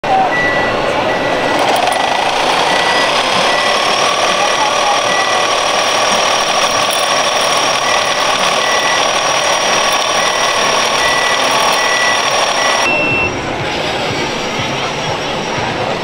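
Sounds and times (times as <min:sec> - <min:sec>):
reversing beeper beeps: 0:00.1 - 0:13.4
high machine whine: 0:00.3 - 0:14.6.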